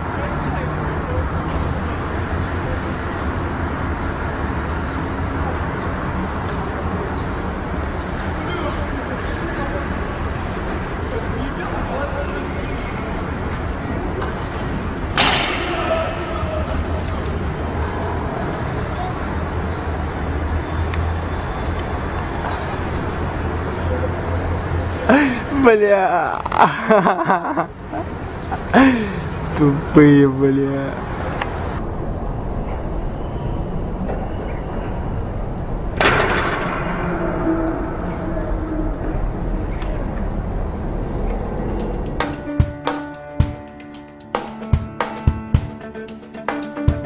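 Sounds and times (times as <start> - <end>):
urban background rumble: 0.0 - 47.0.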